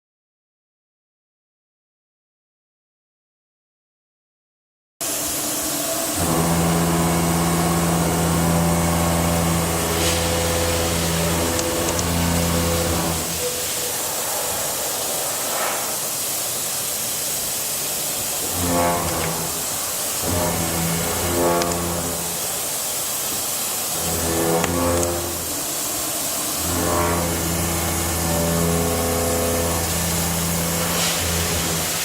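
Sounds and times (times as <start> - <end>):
milling cutter machining metal: 5.0 - 32.0.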